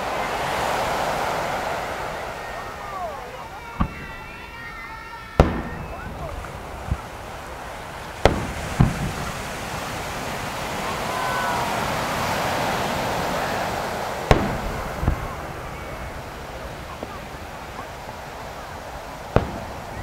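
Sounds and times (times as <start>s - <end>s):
firework booms: 0.0s - 20.0s
murmur of crowd voices: 0.0s - 20.0s.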